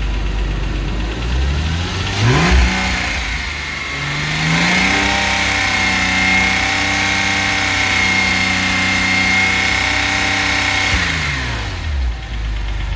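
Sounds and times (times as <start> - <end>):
car engine held at raised revs: 0.0 - 12.9.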